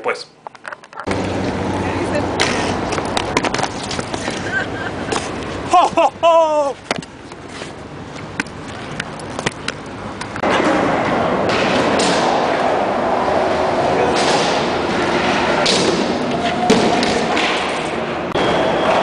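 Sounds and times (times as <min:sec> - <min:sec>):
skate wheels rolling on concrete: 0:00.9 - 0:19.0.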